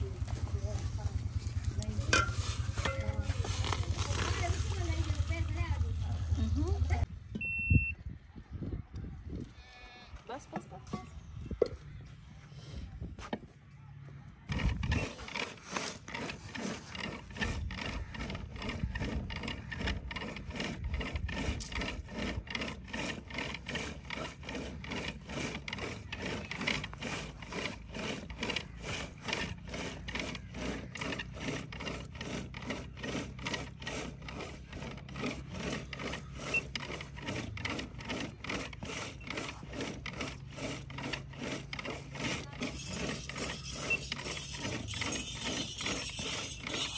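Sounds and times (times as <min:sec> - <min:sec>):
kitchen implement rubbing and scraping: 0:00.0 - 0:07.1, 0:14.5 - 0:46.9.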